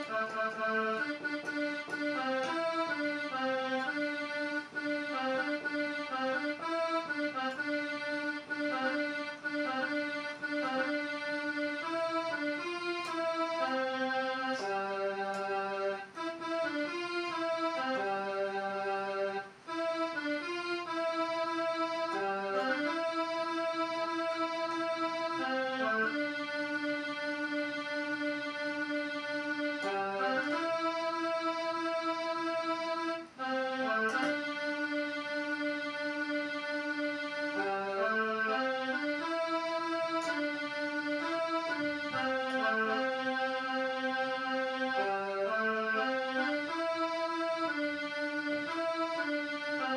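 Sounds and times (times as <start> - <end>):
electronic keyboard melody: 0.0 - 49.9.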